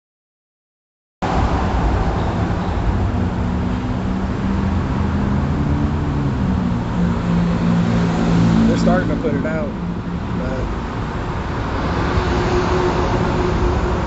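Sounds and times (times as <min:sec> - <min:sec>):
vehicle engines idling: 0:01.3 - 0:14.0.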